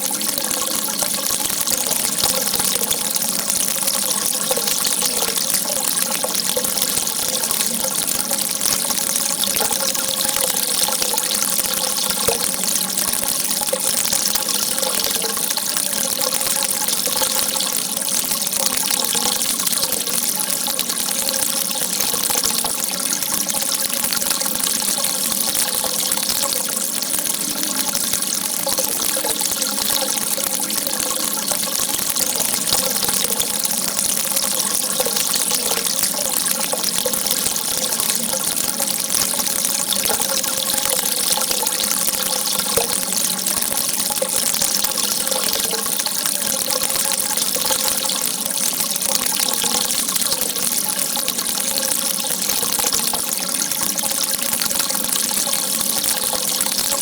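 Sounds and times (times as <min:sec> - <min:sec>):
faint wavering gurgle: 0:00.0 - 0:57.0
water gushing: 0:00.0 - 0:57.0.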